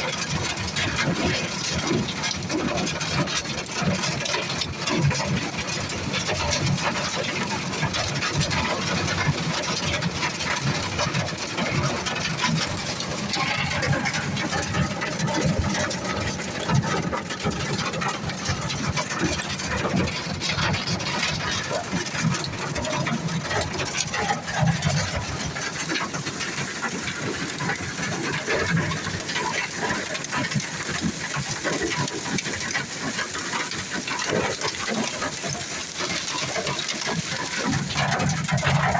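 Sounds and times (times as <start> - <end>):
hail and heavy rain pelting: 0.0 - 38.9.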